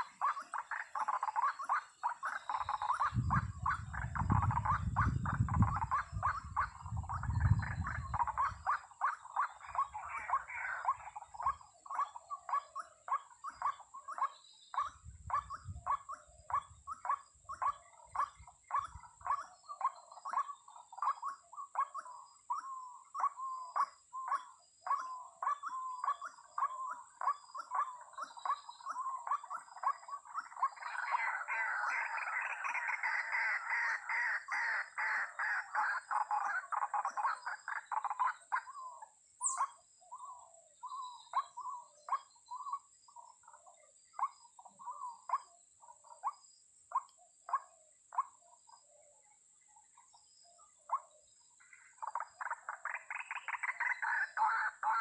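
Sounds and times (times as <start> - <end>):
waterhen harsh croaking calls: 0.0 - 48.8, 50.9 - 55.0.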